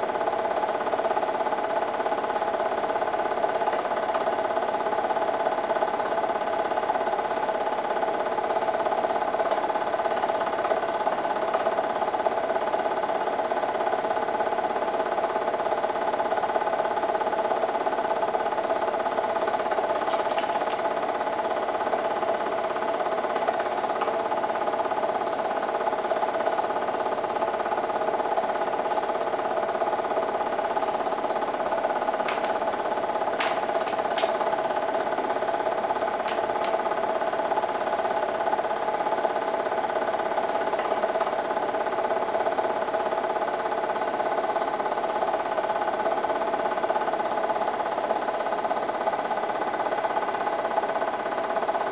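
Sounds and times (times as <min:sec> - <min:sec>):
film projector whirring: 0:00.0 - 0:51.9.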